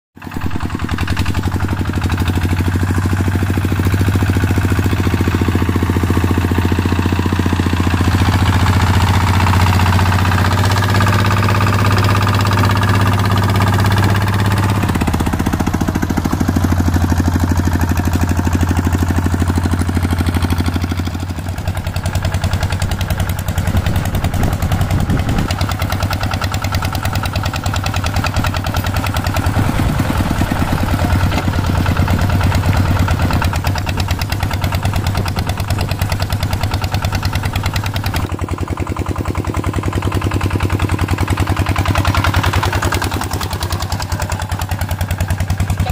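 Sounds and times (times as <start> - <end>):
diesel engine chugging: 0.2 - 45.9.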